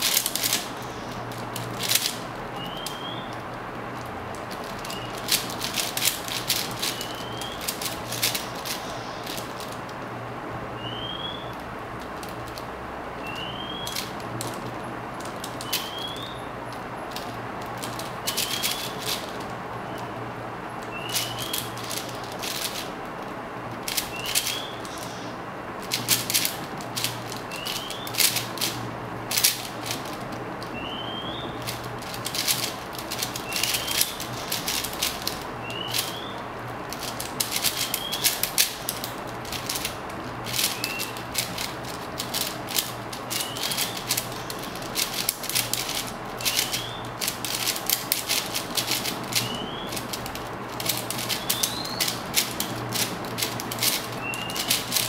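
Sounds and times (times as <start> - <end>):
puzzle cube clicking: 0.0 - 2.2, 2.8 - 9.8, 11.5 - 12.6, 13.2 - 19.4, 20.8 - 22.9, 23.9 - 25.1, 25.8 - 30.7, 31.6 - 36.3, 36.9 - 55.0
faint steady hum: 0.0 - 55.0.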